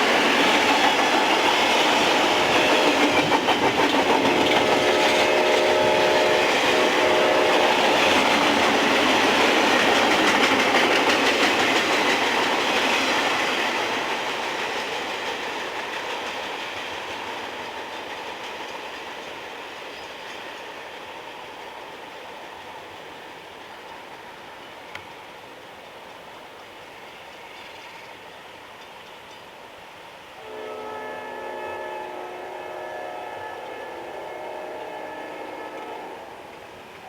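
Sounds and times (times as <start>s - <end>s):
train rolling past: 0.0s - 37.0s.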